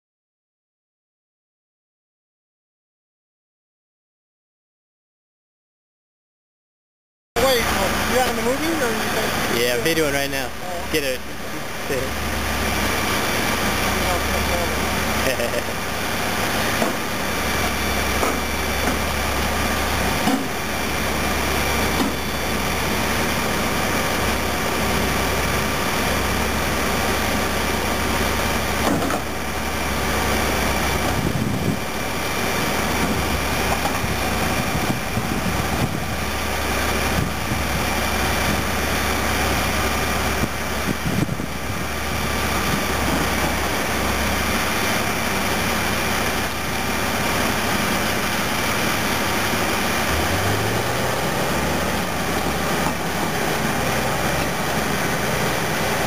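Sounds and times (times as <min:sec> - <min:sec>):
diesel engine running: 0:07.4 - 0:56.0
high whine: 0:07.4 - 0:56.0.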